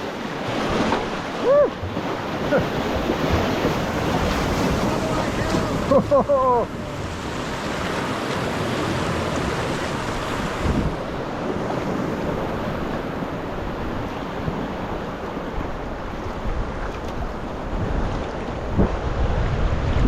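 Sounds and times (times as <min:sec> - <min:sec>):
sea waves washing: 0:00.0 - 0:20.0
wind buffeting microphone: 0:01.8 - 0:20.0.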